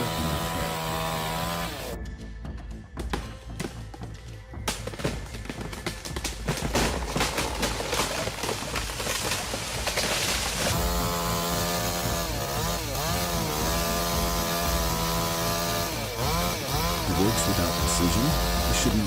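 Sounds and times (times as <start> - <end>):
chainsaw cutting wood: 0.0 - 2.0, 4.8 - 19.0.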